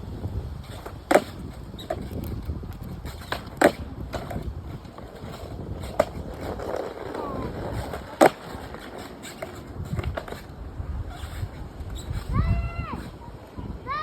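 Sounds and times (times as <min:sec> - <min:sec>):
skateboard wheels on pavement: 0:00.0 - 0:14.0
wind on microphone: 0:00.0 - 0:14.0
skateboard clacks: 0:00.6 - 0:12.4.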